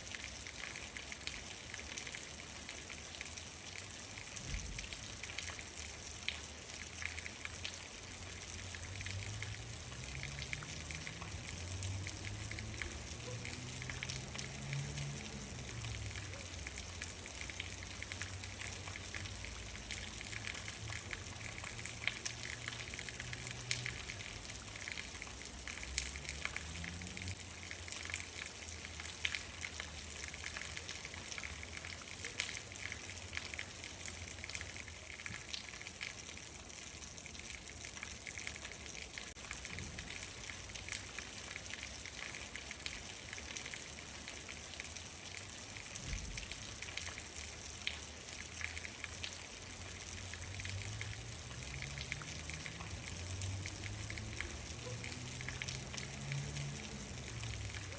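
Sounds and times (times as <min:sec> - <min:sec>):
rain hiss: 0:00.0 - 0:57.9
raindrops ticking on a surface: 0:00.0 - 0:57.9.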